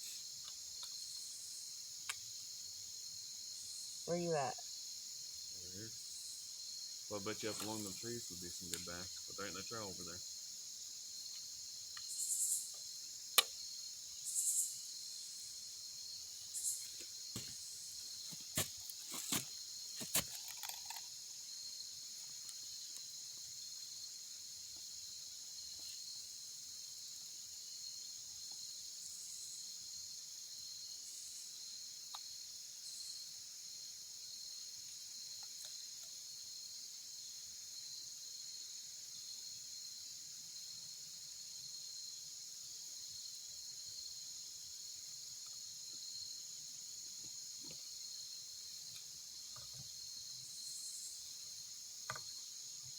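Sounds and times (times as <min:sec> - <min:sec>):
crickets chirping: 0:00.0 - 0:52.9.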